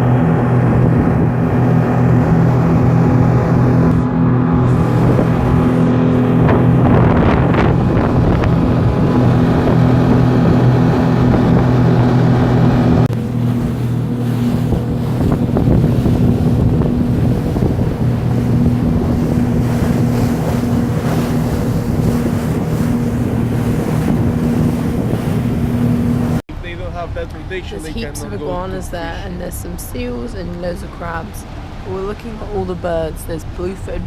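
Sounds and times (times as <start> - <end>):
motorboat engine running: 0.0 - 34.0
water rushing past hull: 0.0 - 34.0
wind buffeting microphone: 0.0 - 34.0.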